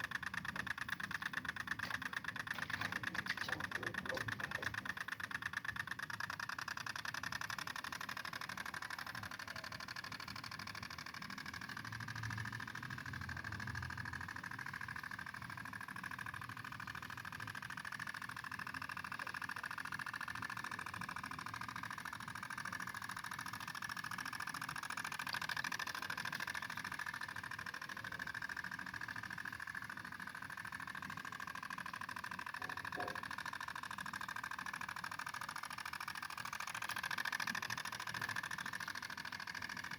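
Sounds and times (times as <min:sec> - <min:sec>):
small two-stroke engine buzzing: 0:00.0 - 0:39.9.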